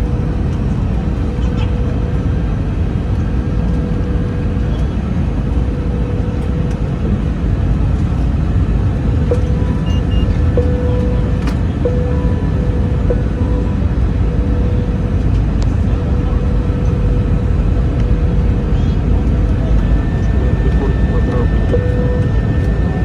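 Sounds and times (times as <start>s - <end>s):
aircraft cabin airflow and engines: 0.0s - 23.0s
steady hum-like tone: 0.0s - 23.0s.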